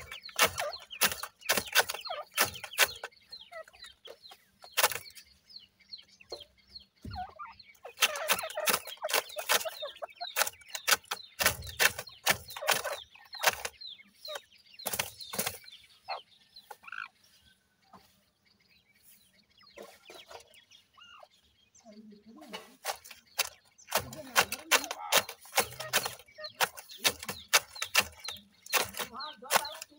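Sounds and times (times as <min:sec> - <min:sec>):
birds rustling on gravel: 0:00.0 - 0:29.9
chicks peeping: 0:00.0 - 0:29.9.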